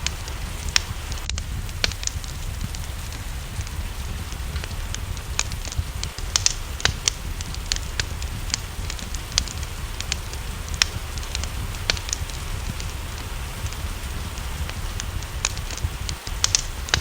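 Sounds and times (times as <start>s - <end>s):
low rumble: 0.0s - 17.0s
rain hiss: 0.0s - 17.0s
wood fire crackling and popping: 0.0s - 17.0s.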